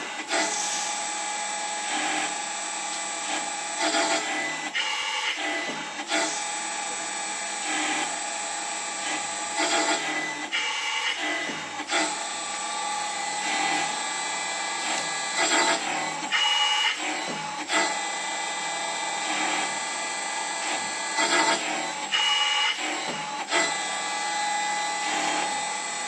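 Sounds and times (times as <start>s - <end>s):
machine motor whine: 0.0s - 26.0s.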